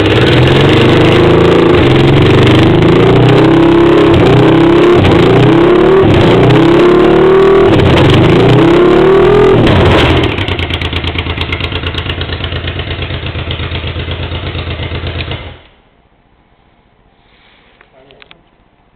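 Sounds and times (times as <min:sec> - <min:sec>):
motorcycle engine revving and idling: 0:00.0 - 0:15.8.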